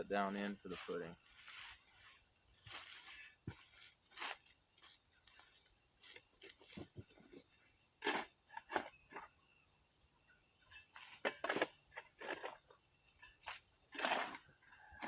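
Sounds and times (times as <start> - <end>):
digging in dirt and stones: 0.7 - 9.6, 10.7 - 15.0.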